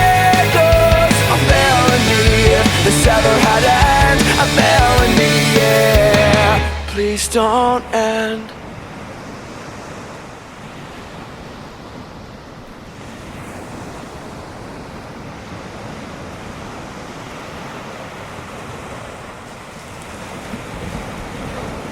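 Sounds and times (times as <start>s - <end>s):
waves breaking: 0.1s - 21.9s.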